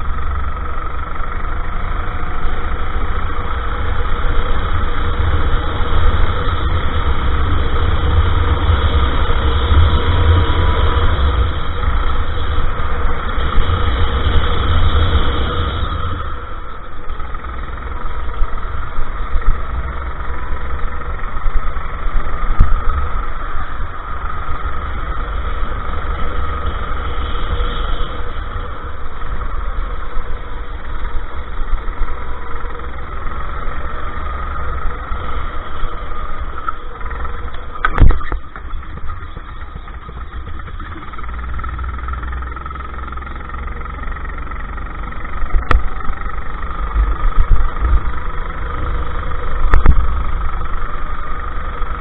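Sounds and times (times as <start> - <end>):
go-kart engine racing: 0.0 - 52.0
wind rumble on microphone: 1.3 - 42.6, 45.1 - 52.0.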